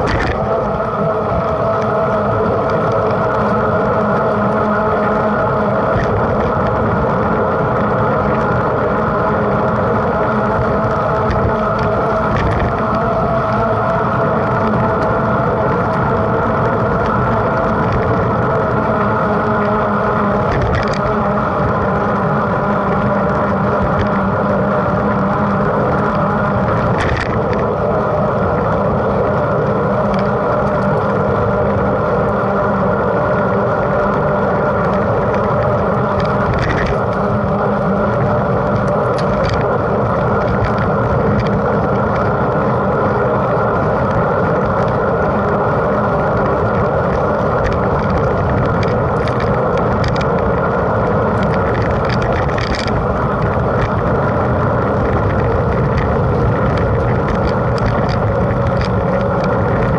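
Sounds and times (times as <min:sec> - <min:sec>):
bike clicks and rattles: 0:00.0 - 0:59.9
wind rush: 0:00.0 - 0:59.9.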